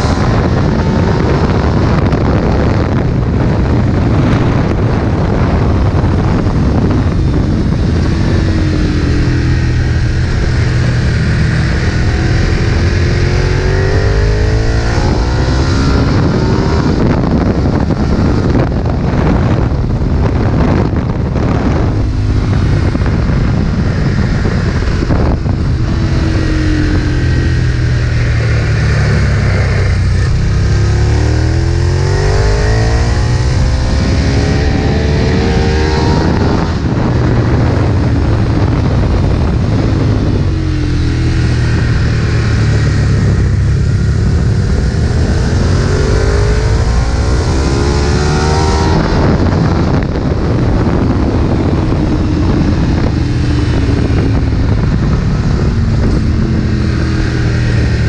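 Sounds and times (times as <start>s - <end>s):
motorcycle engine at full throttle: 0.0s - 58.0s.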